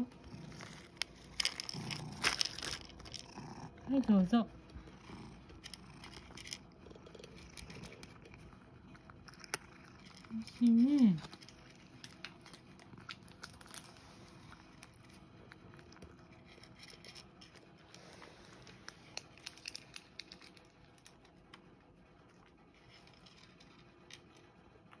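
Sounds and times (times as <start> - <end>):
cat crunching dry kibble: 0.1 - 25.0.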